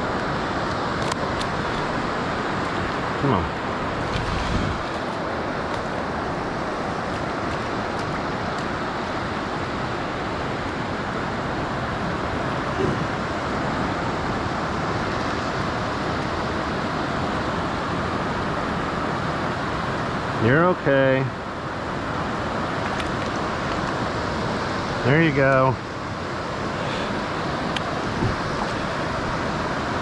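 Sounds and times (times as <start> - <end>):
surf rushing: 0.0 - 30.0
wind: 0.0 - 30.0.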